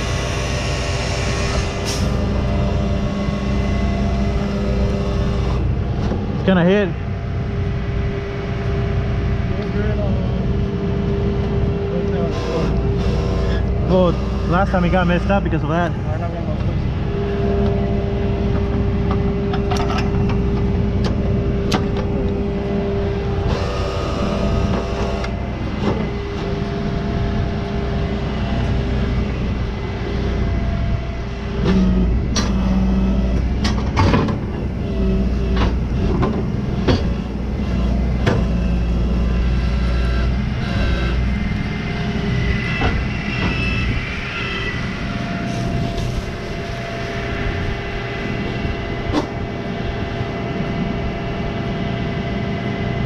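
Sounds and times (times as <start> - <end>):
steady tone: 0.0 - 33.7, 34.4 - 53.0
diesel tow truck running: 0.0 - 53.0.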